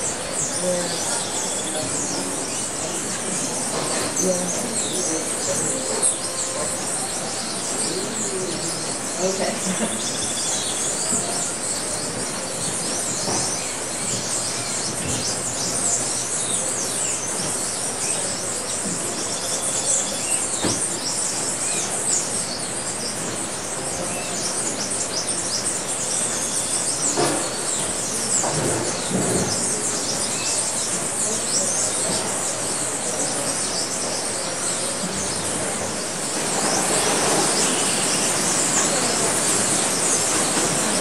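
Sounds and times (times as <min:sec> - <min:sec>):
birds chirping: 0:00.0 - 0:41.0
steady background hiss: 0:00.0 - 0:41.0.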